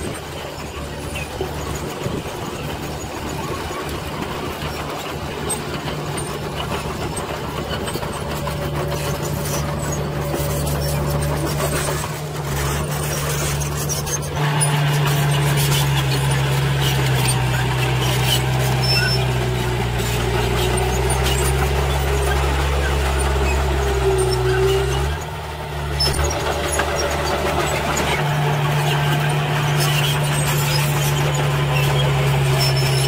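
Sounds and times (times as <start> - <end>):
bulldozer diesel engine working: 0.0 - 33.0
dump truck diesel engine running: 0.0 - 33.0.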